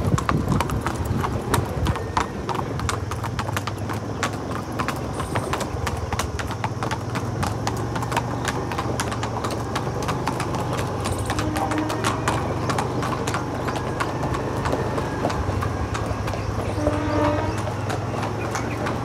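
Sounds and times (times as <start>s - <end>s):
hooves clip-clopping on bricks: 0.0s - 19.0s.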